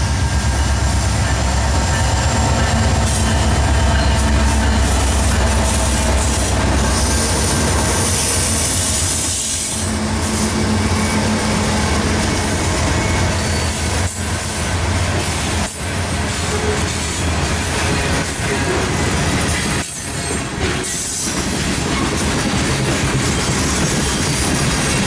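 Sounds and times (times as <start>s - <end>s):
locomotive engines droning: 0.0s - 20.6s
steel wheels rumbling on rail: 0.0s - 25.0s.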